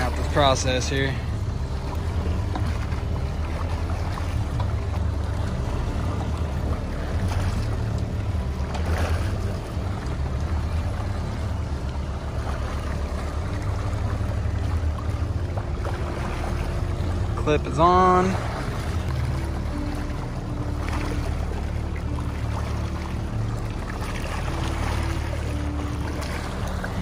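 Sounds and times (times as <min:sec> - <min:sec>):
boat motor droning: 0:00.0 - 0:27.0.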